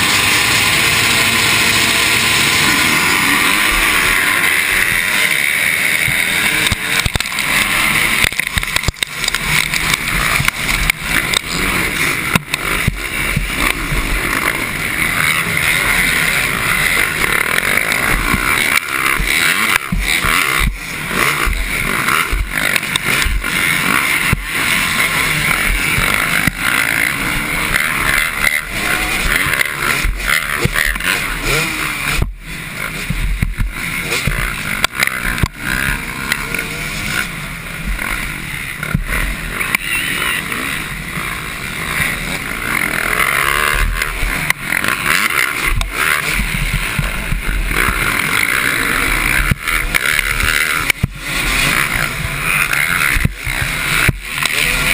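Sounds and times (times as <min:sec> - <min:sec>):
dirt bike engines revving: 0:00.0 - 0:54.9.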